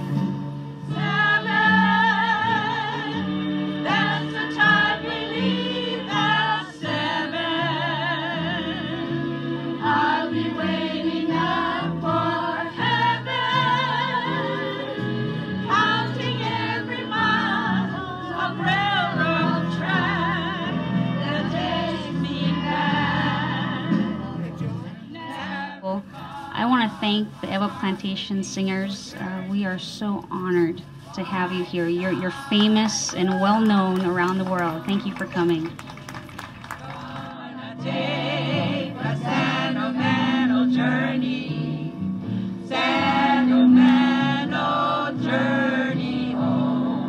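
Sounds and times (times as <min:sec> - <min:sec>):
vocal group singing with vibrato: 0:00.0 - 0:29.7, 0:30.4 - 0:34.8, 0:36.6 - 0:47.0.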